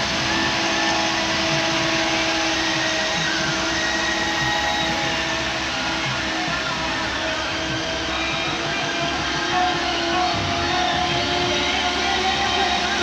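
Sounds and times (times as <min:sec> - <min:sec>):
heavy machinery running: 0:00.0 - 0:13.0.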